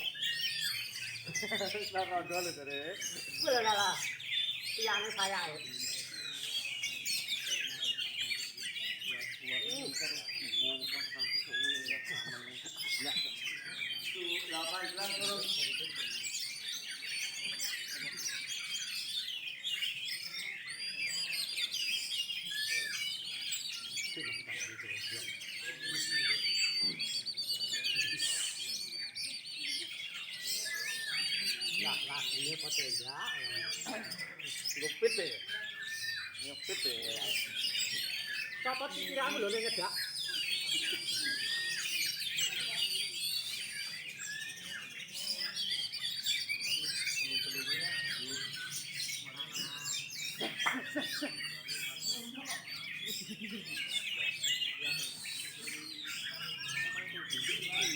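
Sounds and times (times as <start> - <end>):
birds singing whistles and trills: 0.0 - 57.9.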